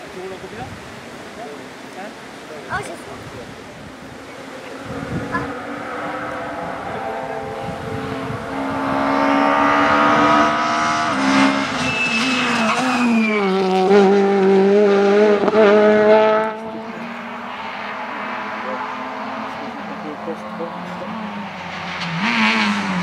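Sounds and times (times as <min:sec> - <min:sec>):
rally car engine revving: 0:04.1 - 0:23.0.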